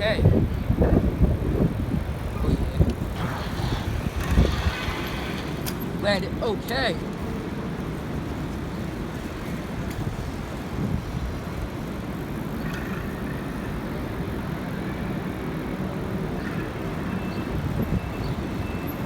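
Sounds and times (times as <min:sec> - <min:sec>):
traffic rumble: 0:00.0 - 0:19.0
wind: 0:00.0 - 0:19.0.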